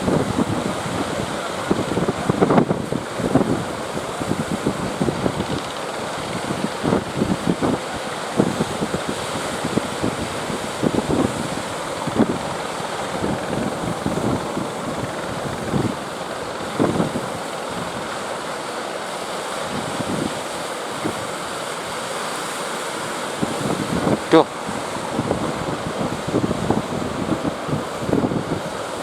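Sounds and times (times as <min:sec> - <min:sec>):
wind buffeting microphone: 0:00.0 - 0:18.3, 0:23.0 - 0:29.0
sea surf rushing: 0:00.0 - 0:29.0.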